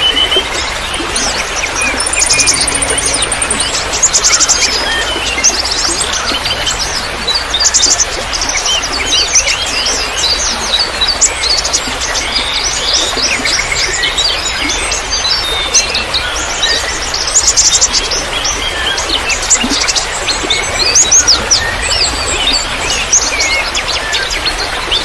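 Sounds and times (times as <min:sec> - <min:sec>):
trickling water: 0:00.0 - 0:25.0.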